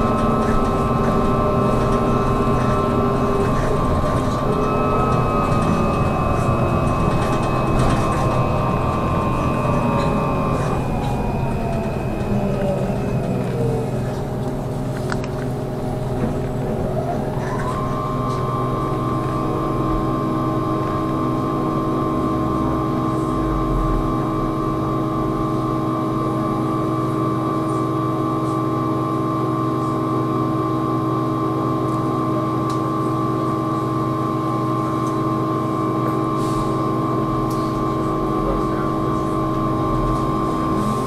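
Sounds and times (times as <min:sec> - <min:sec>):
trolleybus electrical whine: 0:00.0 - 0:41.0.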